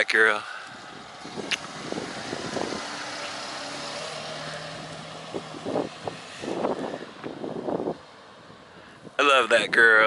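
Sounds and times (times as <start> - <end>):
car engine and tyre noise: 0.0 - 10.0.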